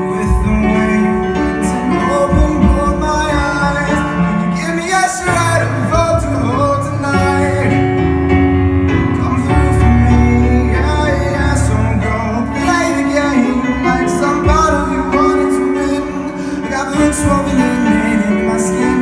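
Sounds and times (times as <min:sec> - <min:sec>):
keyboard playing: 0:00.0 - 0:19.0
man singing: 0:00.0 - 0:19.0.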